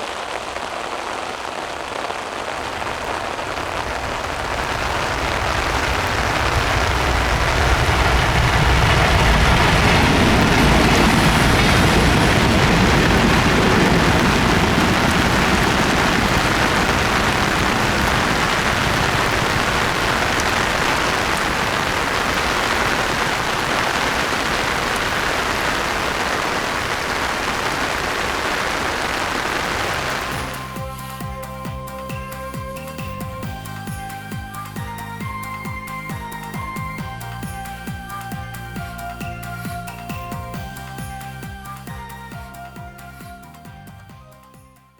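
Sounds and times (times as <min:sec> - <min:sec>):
steady rain hissing: 0:00.0 - 0:44.9
electric train rumbling past: 0:02.6 - 0:42.8.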